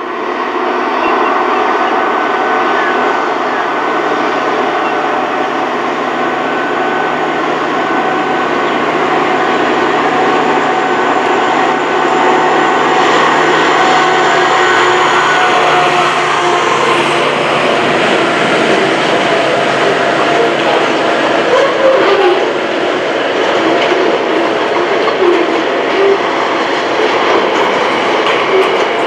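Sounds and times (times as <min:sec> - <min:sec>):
locomotive engine drone with whine: 0:00.0 - 0:29.0.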